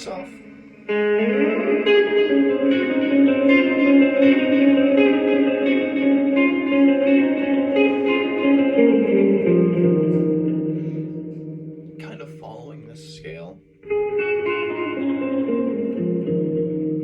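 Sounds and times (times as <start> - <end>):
electric guitar with reverb: 0.0 - 17.0.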